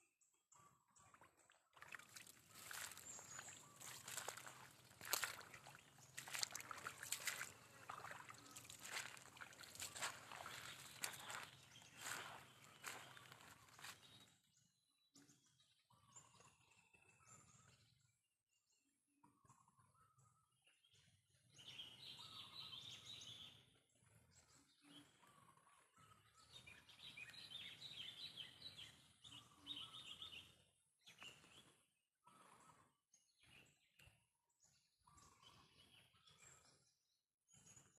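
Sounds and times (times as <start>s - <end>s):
bird chirping and twittering: 2.2s - 18.1s, 19.4s - 32.5s, 33.2s - 36.9s.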